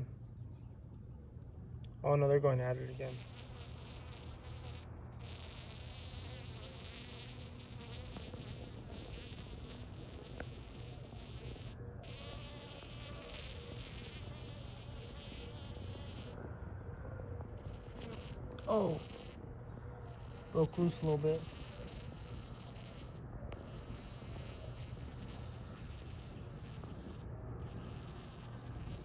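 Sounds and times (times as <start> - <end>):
flying insects buzzing: 2.7 - 16.4, 17.5 - 19.4, 20.0 - 29.0.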